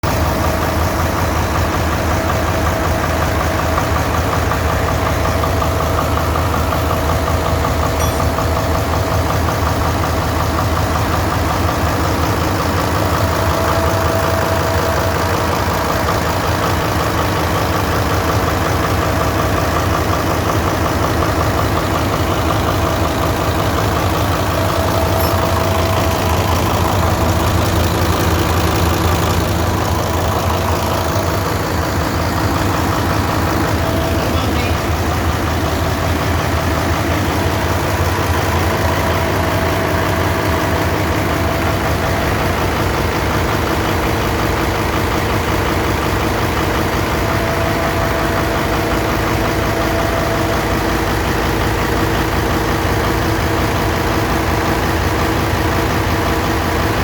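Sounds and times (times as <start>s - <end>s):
ship diesel engine running: 0.0s - 57.0s.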